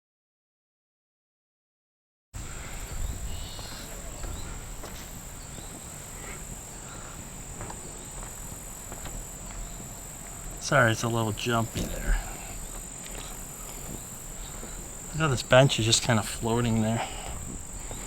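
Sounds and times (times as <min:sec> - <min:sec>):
insects trilling: 0:02.4 - 0:18.0.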